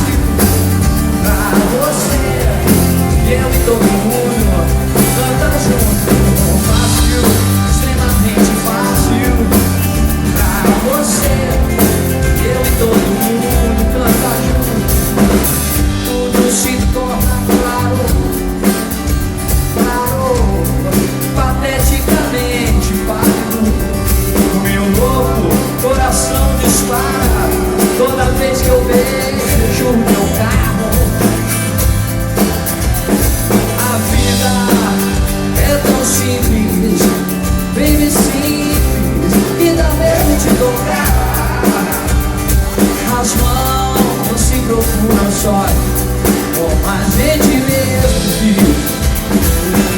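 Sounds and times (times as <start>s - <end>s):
bass guitar: 0.0s - 49.9s
drum kit: 0.0s - 49.9s
electric guitar: 0.0s - 49.9s
person singing: 0.0s - 49.9s.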